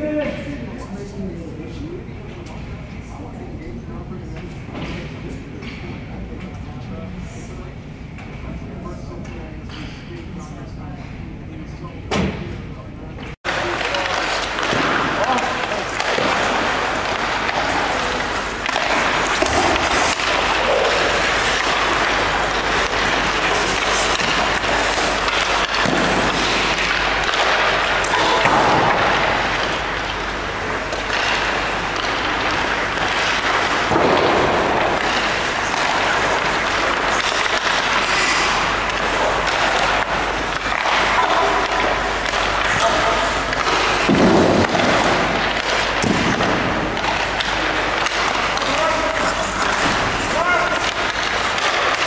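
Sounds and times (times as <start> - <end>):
noisy din: 0.0 - 52.0.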